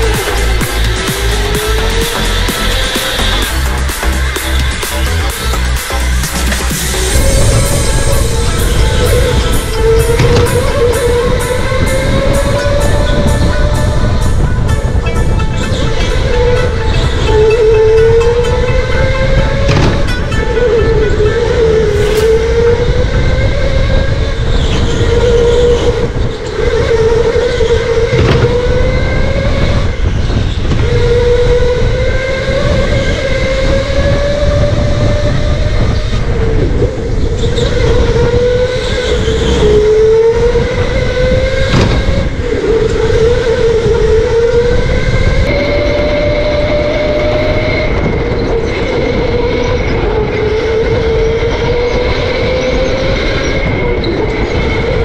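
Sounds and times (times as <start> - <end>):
electric motor whining: 0.0 - 55.0
low rumble: 0.0 - 55.0.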